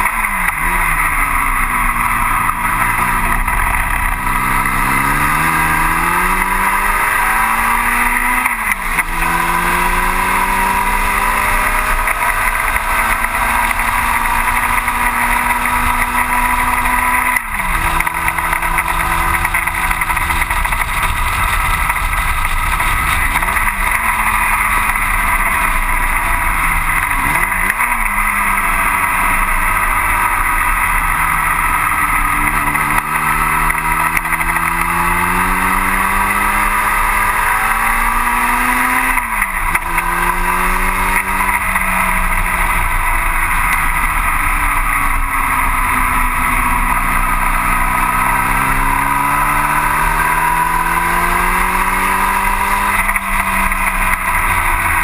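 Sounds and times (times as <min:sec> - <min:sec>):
gear changes: 0:00.0 - 0:55.0
race car engine revving: 0:00.0 - 0:55.0.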